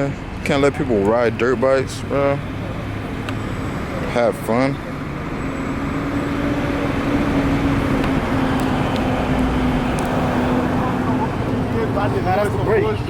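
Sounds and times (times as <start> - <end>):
road and street noise: 0.0 - 13.0.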